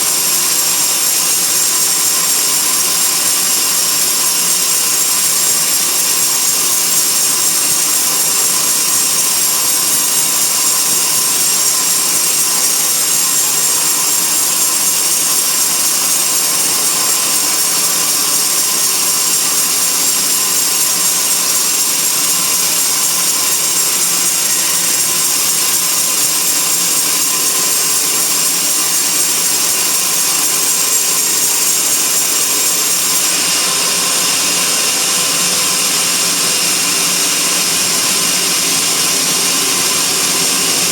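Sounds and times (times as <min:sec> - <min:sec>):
band saw cutting log: 0:00.0 - 0:40.9.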